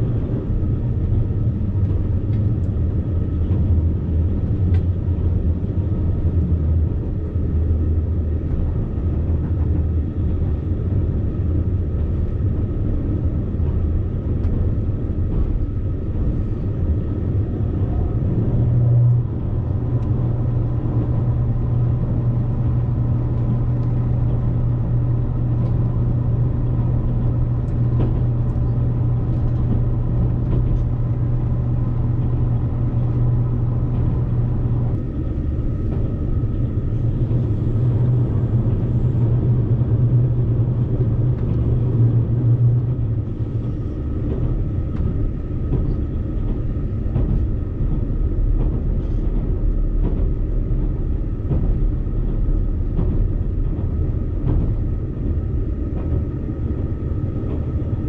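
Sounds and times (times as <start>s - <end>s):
deep hum: 0.0s - 58.0s
train cabin rumble: 0.0s - 58.0s.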